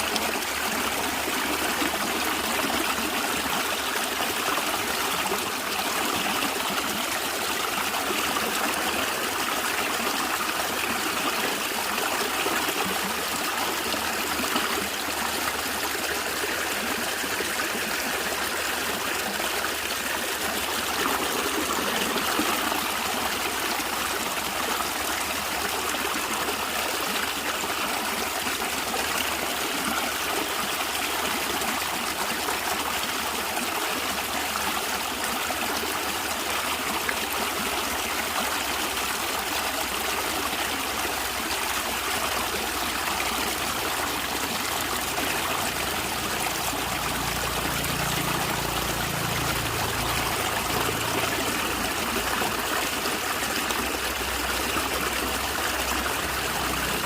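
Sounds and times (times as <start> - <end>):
stream water trickling over stones: 0.0 - 57.0.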